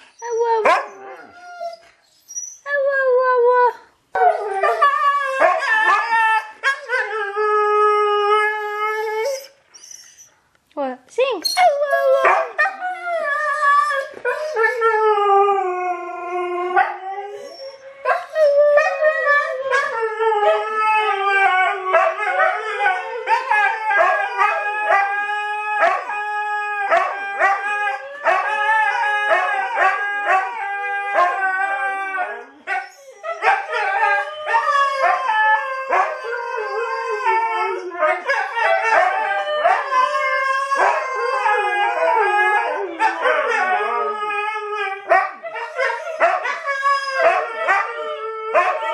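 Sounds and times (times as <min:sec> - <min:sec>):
dogs howling: 0:02.7 - 0:09.5, 0:11.6 - 0:48.9.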